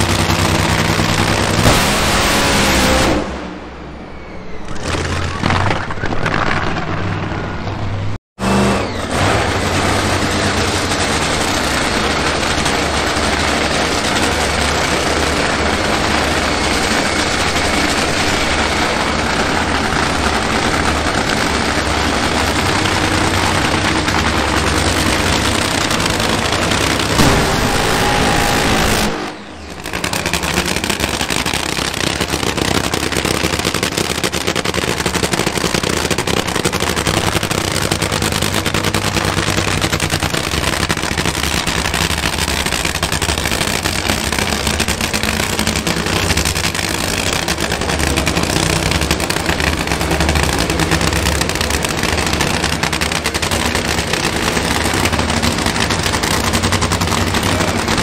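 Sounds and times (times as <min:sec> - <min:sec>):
drag racing engine roaring: 0:00.0 - 0:58.0
fast popping crackle: 0:04.8 - 0:07.3, 0:11.0 - 0:58.0.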